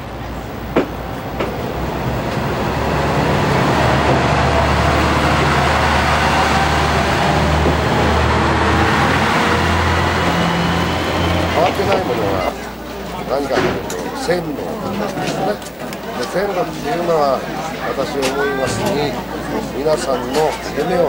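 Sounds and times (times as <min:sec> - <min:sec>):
diesel railcar running: 0:00.0 - 0:21.0.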